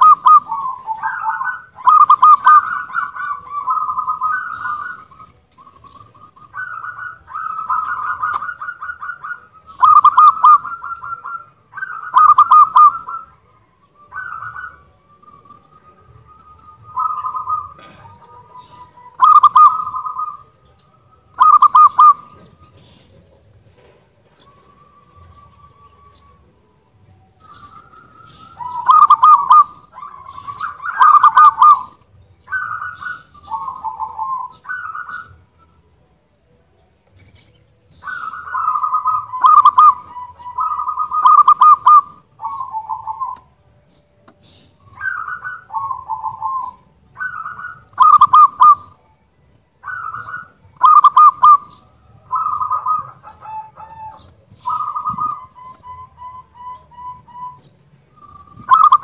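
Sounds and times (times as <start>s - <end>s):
dove cooing and trilling: 0.0s - 36.1s, 37.2s - 59.0s.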